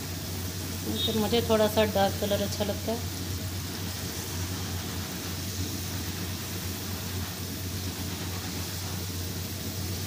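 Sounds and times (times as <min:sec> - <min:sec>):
fries sizzling in hot oil: 0:00.0 - 0:10.0
low steady hum: 0:00.0 - 0:10.0.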